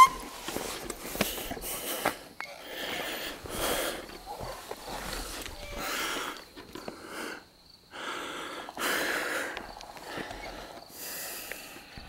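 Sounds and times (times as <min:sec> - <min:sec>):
person breathing hard: 0:01.0 - 0:12.0.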